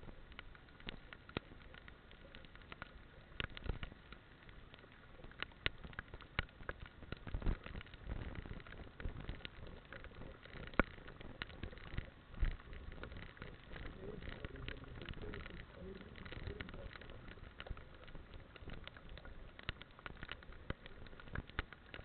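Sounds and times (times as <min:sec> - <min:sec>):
raindrops tapping on camera: 0:00.0 - 0:22.0.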